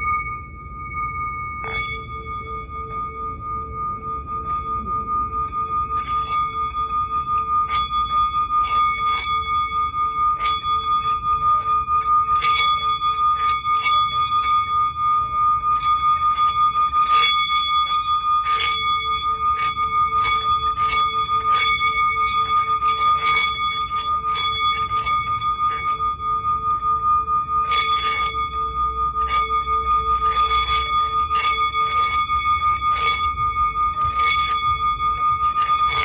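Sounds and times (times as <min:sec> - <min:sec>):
singing bowl ringing: 0:00.0 - 0:36.0.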